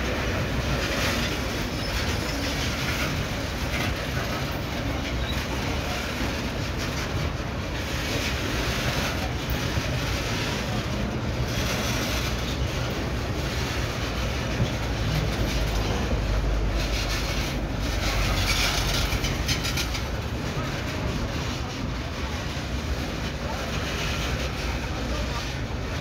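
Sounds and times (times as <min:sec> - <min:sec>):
freight train wheels clattering on rails: 0:00.0 - 0:26.0.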